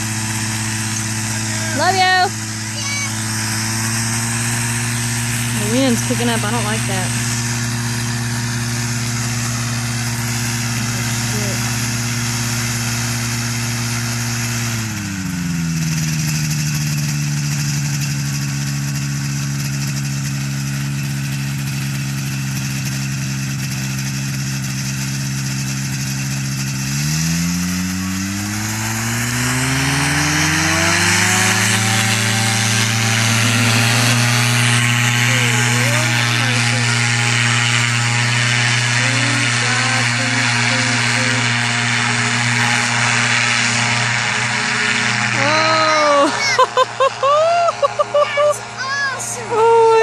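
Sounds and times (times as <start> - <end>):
engine and propeller running: 0.0 - 50.0.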